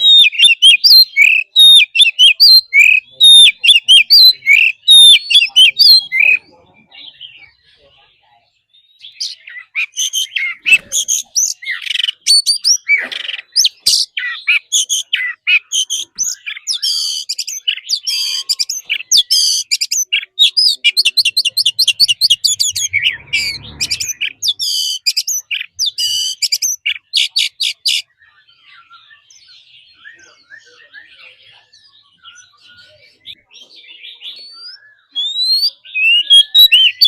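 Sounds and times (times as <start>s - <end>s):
bird singing whistles and trills: 0.0s - 7.9s, 8.6s - 37.0s
faint bird chirping: 0.0s - 37.0s.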